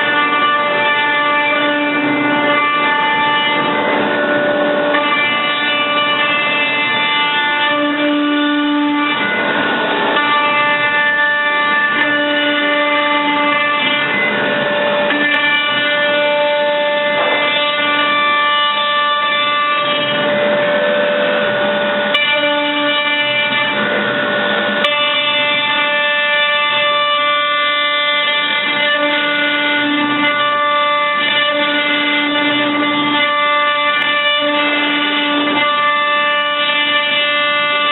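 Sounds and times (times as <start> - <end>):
cnc router motors whining: 0.0 - 37.9.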